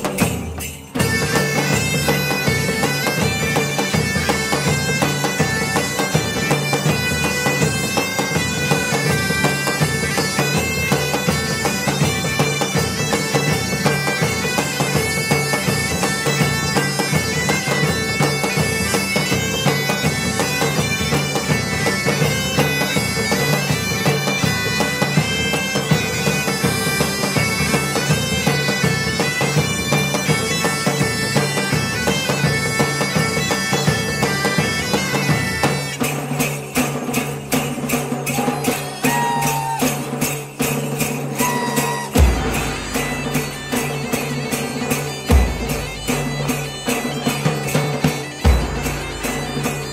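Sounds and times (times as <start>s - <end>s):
bagpipe music with drones: 1.0s - 36.2s, 41.2s - 49.9s.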